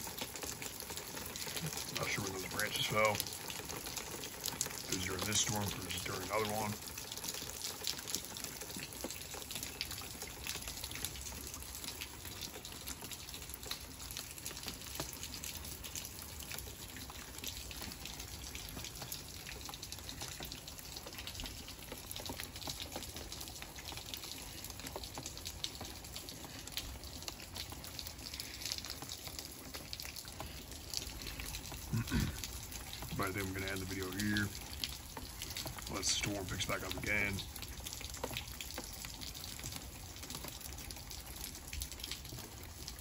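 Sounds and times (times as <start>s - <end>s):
drips ticking: 0.0s - 43.0s
rain falling: 0.0s - 43.0s.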